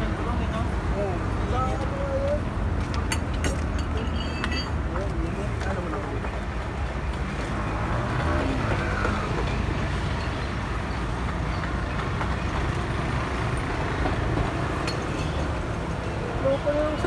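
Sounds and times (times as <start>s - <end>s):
road traffic rumble: 0.0s - 17.0s
trucks and cars passing: 0.0s - 17.0s.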